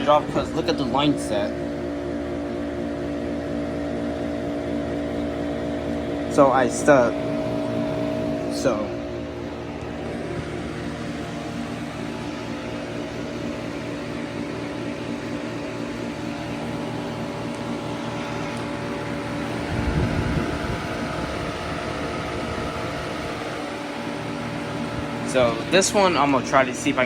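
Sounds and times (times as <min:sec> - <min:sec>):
electric fan hum: 0:00.0 - 0:27.0.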